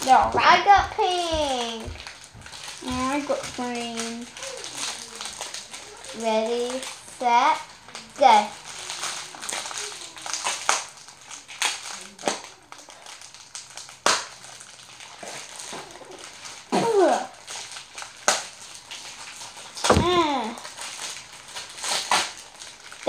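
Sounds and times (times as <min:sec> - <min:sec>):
plastic wrappers crinkling: 0:00.0 - 0:23.0.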